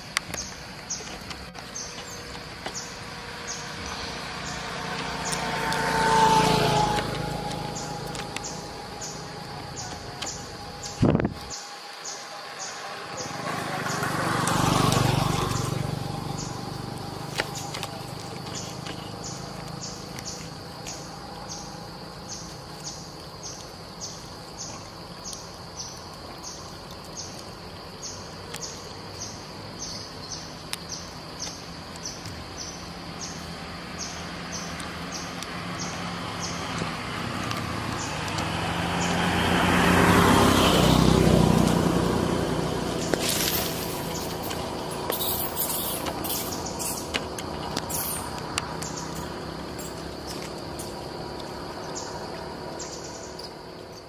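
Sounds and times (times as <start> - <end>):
vehicle passing: 0.0 - 24.7, 25.8 - 54.0.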